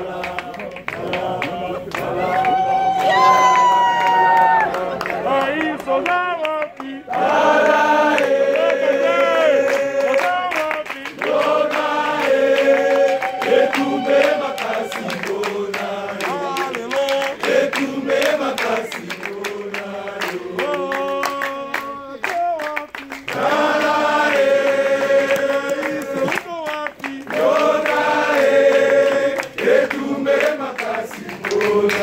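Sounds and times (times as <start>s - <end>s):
group singing a chant-like song: 0.0s - 2.6s, 3.5s - 22.6s, 23.3s - 32.0s
hand claps: 0.0s - 32.0s.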